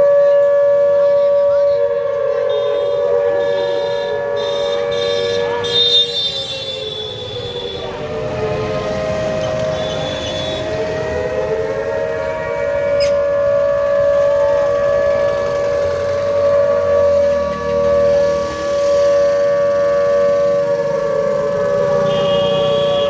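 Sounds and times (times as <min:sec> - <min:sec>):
warning siren steady tone: 0:00.0 - 0:23.0.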